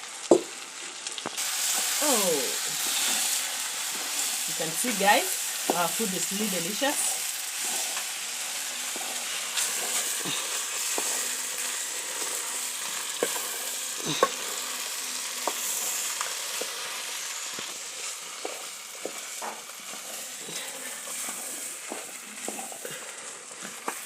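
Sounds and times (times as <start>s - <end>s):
stew sizzling in a pot: 0.0s - 24.0s.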